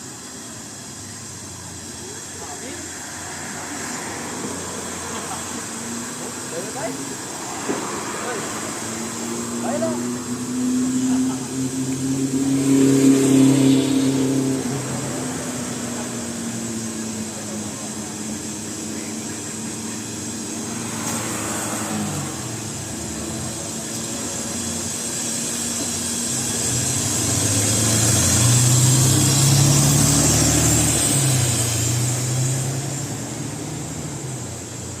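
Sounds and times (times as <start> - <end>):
bus diesel engine running: 0.0 - 35.0.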